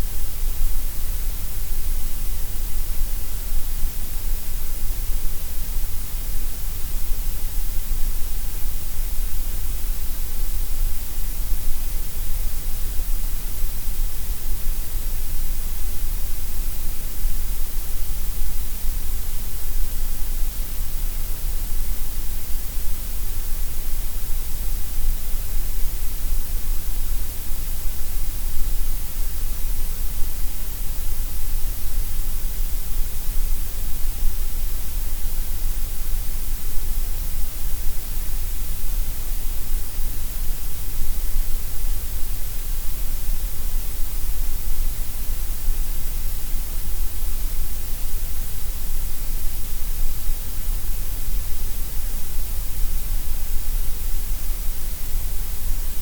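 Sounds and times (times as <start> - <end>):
gray noise hiss: 0.0 - 56.0.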